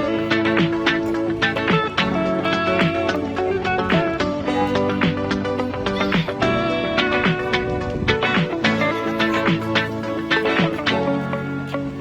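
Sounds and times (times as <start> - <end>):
plucked guitar tune over beat: 0.0 - 12.0.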